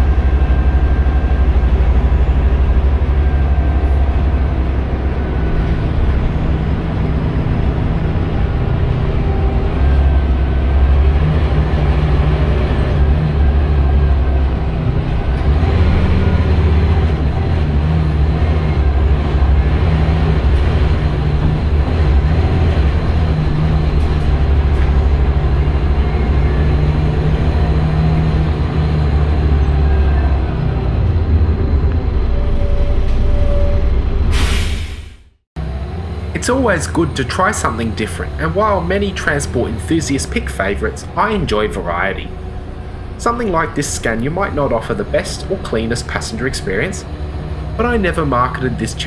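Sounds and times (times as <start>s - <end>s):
bus diesel engine droning: 0.0s - 49.0s
road noise: 0.0s - 49.0s.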